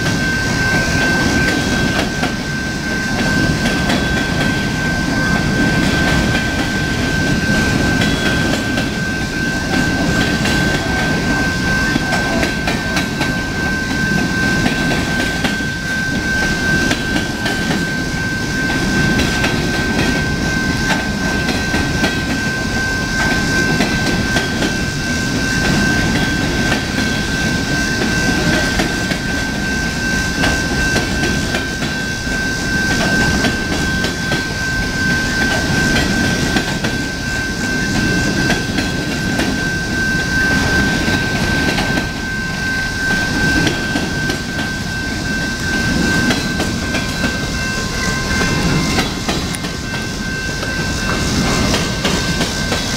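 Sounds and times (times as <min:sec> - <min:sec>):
high-pitched whine: 0:00.0 - 0:52.9
train wheels rumbling on rail: 0:00.0 - 0:52.9.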